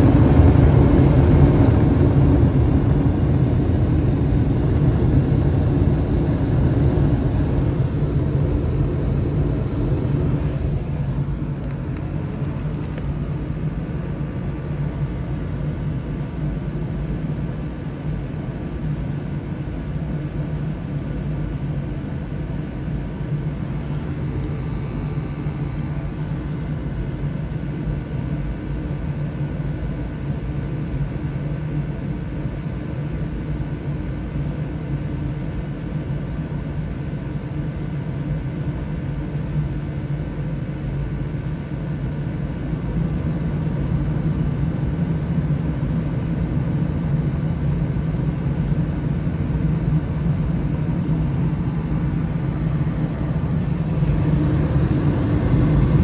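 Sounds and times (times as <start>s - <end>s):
furnace hum and rumble: 0.0s - 56.0s.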